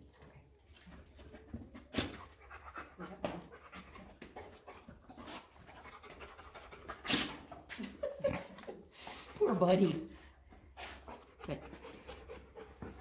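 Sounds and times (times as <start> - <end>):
large dog panting: 1.3 - 7.7, 8.6 - 13.0.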